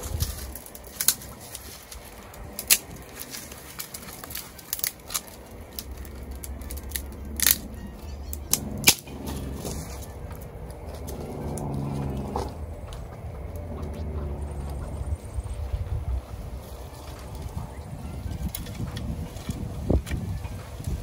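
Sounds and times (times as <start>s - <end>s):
dry sticks snapping: 0.0s - 15.1s, 17.0s - 21.0s
twigs rustling: 0.0s - 21.0s.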